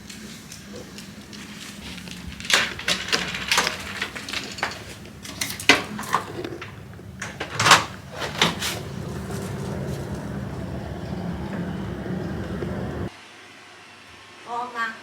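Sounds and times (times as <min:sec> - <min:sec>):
knocks and clatters: 0:00.7 - 0:13.1
steady low hum: 0:00.7 - 0:13.1.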